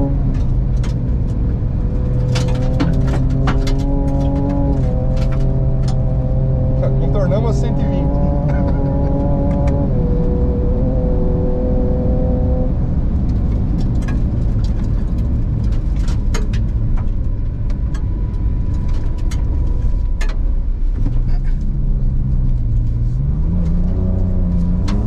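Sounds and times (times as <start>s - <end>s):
tyre and road rumble: 0.0s - 25.0s.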